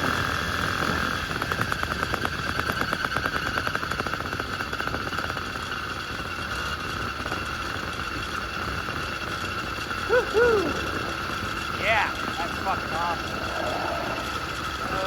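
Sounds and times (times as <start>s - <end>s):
two-stroke bicycle engine running: 0.0s - 15.0s.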